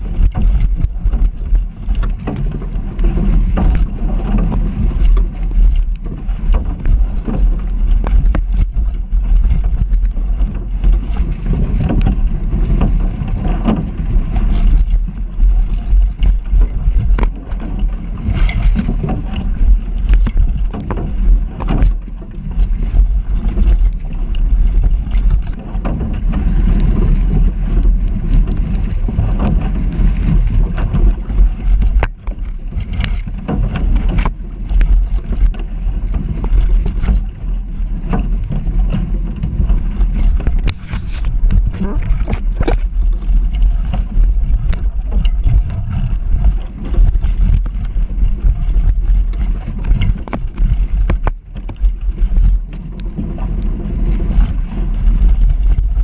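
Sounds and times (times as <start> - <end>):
water slapping against hull: 0.0 - 56.0
wind buffeting microphone: 0.0 - 56.0.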